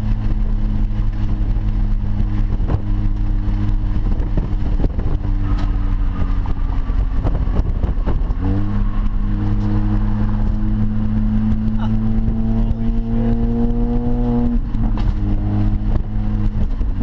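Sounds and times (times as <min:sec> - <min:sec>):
car engine cruising: 0:00.0 - 0:17.0
road noise: 0:00.0 - 0:17.0.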